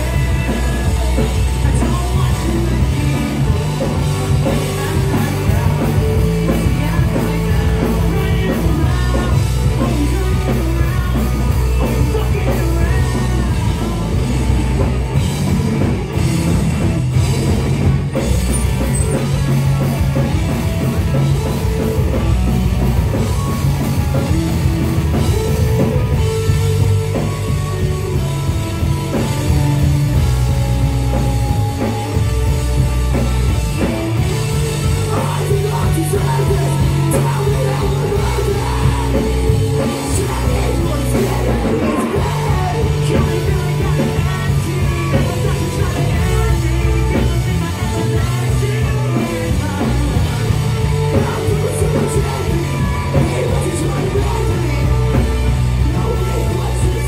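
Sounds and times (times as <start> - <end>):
live heavy rock band: 0.0 - 57.0
vocalists singing and yelling: 0.0 - 57.0.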